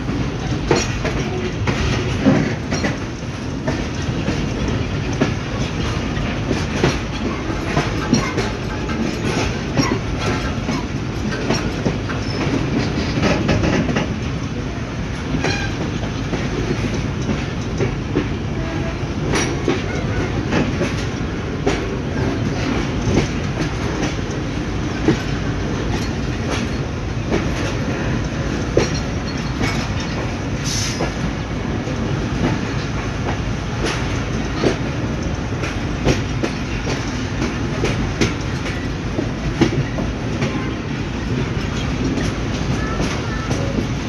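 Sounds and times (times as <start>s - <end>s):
clicks and knocks of train: 0.0s - 44.0s
train wheels rumbling on rail: 0.0s - 44.0s.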